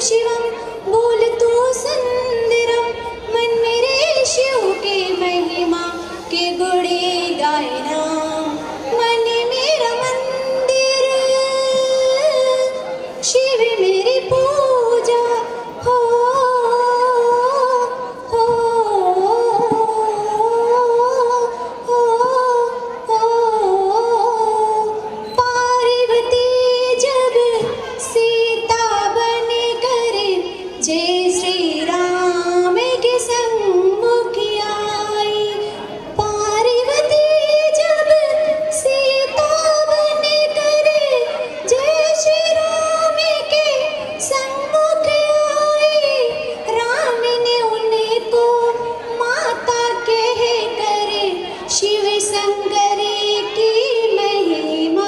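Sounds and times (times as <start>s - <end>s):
woman singing into a microphone: 0.0s - 55.0s.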